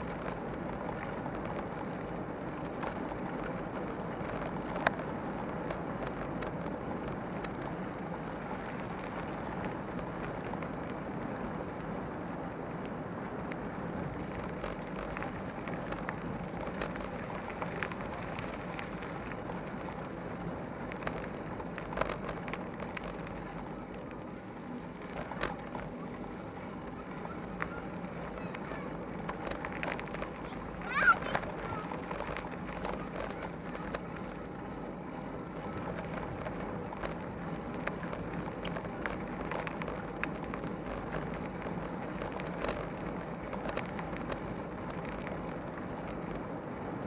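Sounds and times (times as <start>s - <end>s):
tyres rumbling on gravel: 0.0s - 47.0s.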